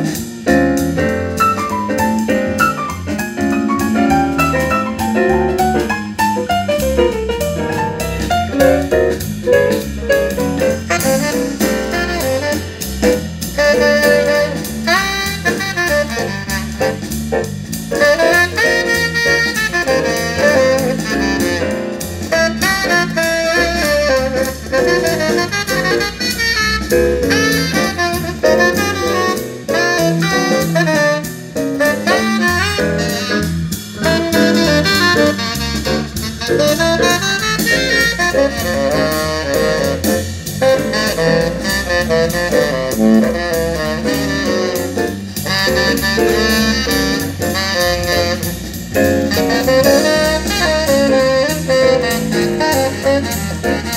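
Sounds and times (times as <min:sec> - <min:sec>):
saxophone-led jazz: 0:00.0 - 0:53.9.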